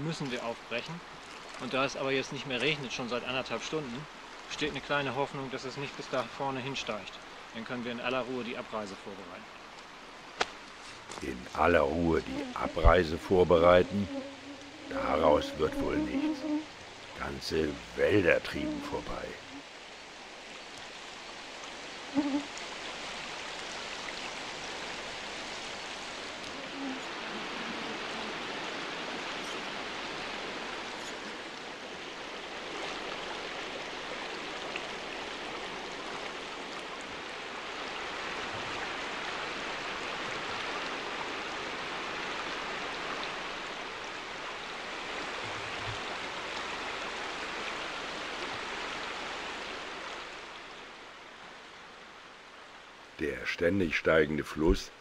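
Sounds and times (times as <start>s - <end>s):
fast-flowing river water: 0.0s - 53.2s.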